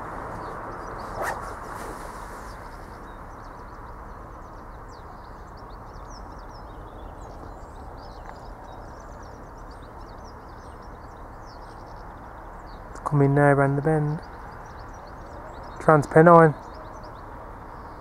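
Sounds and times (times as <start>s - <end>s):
low outdoor background hum: 0.0s - 18.0s
small birds chirping: 0.0s - 18.0s.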